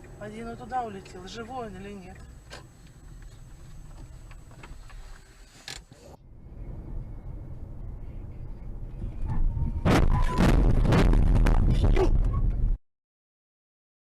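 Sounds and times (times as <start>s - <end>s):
car road and engine rumble: 0.0s - 12.8s.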